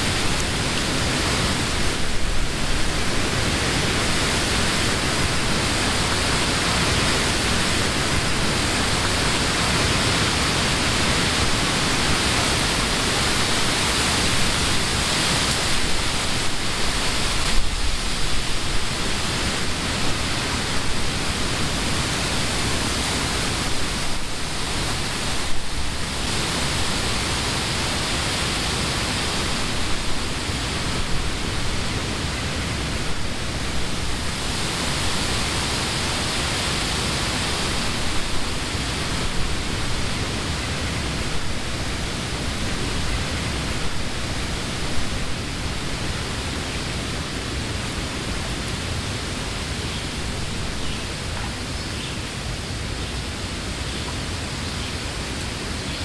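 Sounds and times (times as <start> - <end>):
wind through trees: 0.0 - 56.0.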